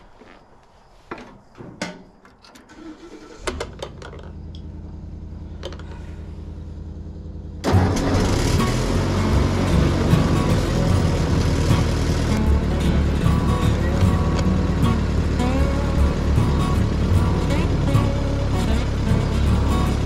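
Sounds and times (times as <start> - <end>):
tractor engine running: 2.6 - 20.0.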